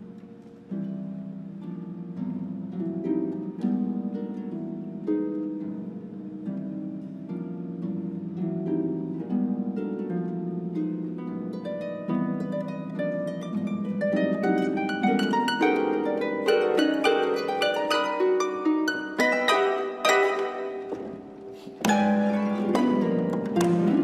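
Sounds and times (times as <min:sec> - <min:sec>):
harps playing: 0:00.0 - 0:24.0.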